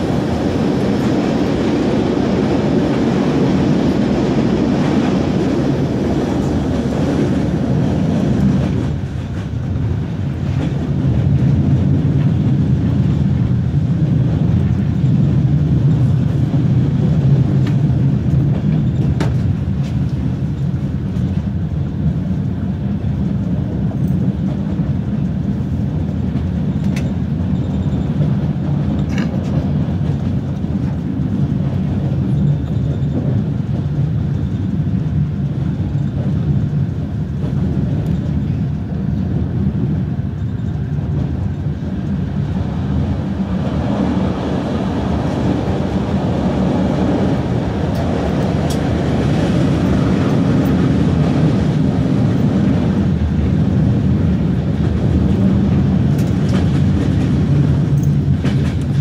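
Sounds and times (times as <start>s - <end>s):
moving vehicle rumble: 0.0s - 59.0s.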